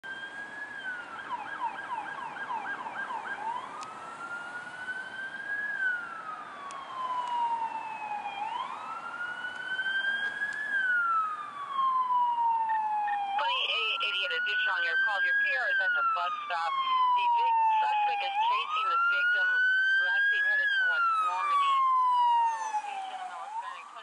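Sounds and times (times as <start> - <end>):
electronic siren yelping and wailing: 0.1 - 24.0.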